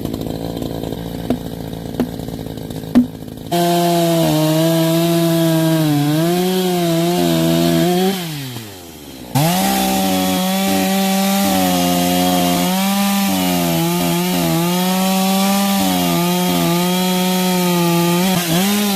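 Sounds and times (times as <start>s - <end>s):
chainsaw cutting firewood: 0.0s - 18.9s.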